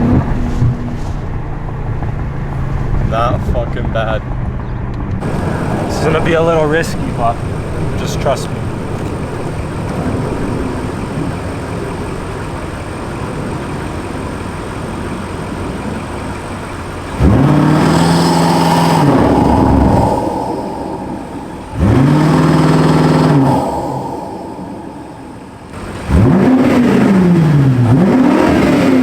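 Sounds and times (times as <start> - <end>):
car engine revving at full throttle: 0.0 - 29.0.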